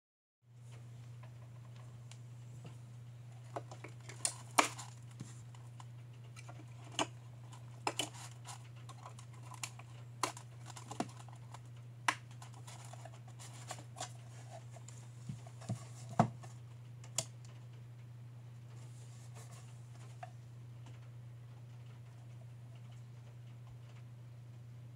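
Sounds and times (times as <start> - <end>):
steady low hum: 0.5 - 24.9.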